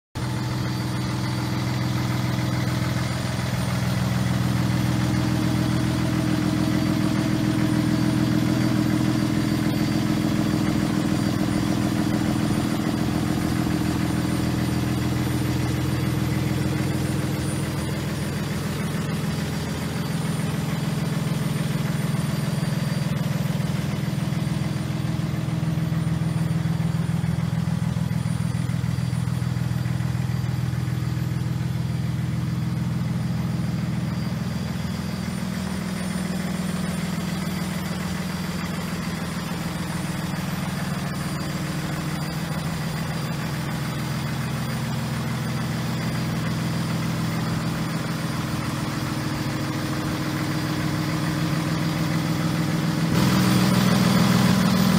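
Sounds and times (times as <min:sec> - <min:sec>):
diesel truck engine idling: 0:00.2 - 0:54.9.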